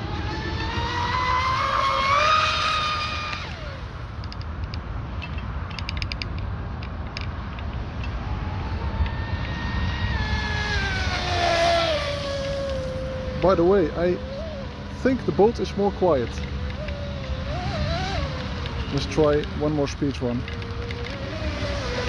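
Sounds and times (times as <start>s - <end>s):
boat motor high whine: 0.0s - 4.4s, 8.0s - 22.0s.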